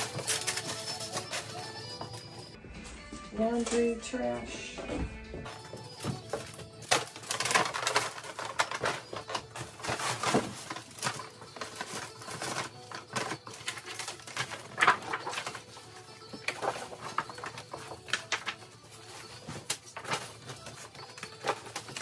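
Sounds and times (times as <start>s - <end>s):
paper and plastic bags rustling: 0.0s - 22.0s.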